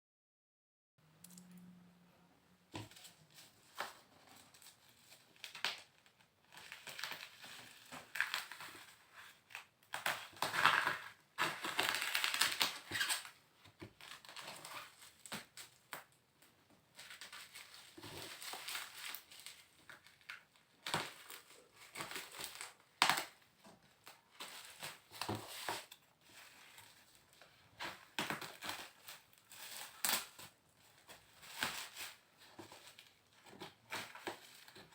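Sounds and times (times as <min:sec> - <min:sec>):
packaging crinkling and rustling: 0:02.8 - 0:16.2, 0:16.9 - 0:34.9.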